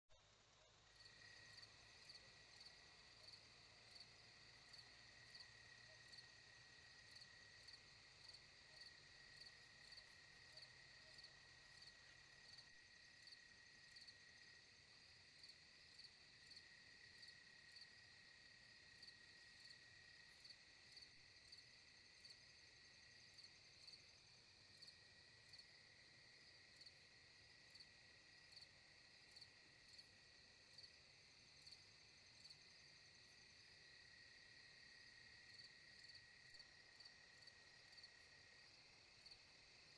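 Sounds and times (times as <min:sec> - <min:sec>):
crickets trilling and chirping: 0:00.8 - 0:39.9.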